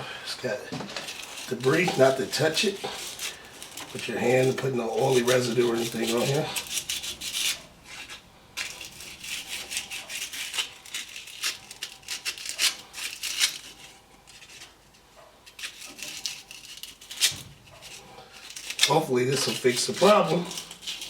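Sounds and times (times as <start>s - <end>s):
sandpaper scratching metal rod: 1.0s - 14.7s, 15.5s - 21.0s.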